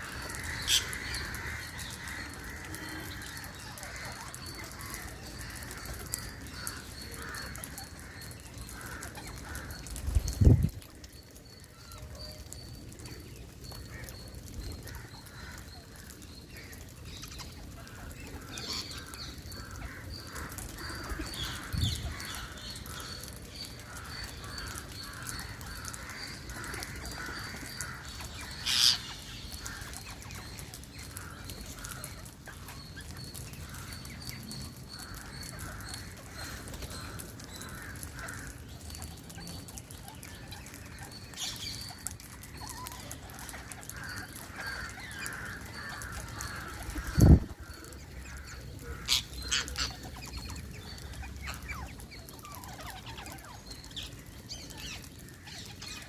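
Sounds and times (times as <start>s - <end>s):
lower repeated bird calls: 0.0s - 56.0s.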